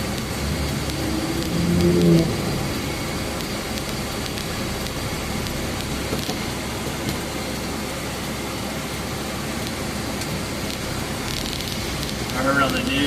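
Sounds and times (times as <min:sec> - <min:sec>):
car engine running: 0:00.0 - 0:13.0
heater fan: 0:00.0 - 0:13.0
road noise: 0:00.0 - 0:13.0.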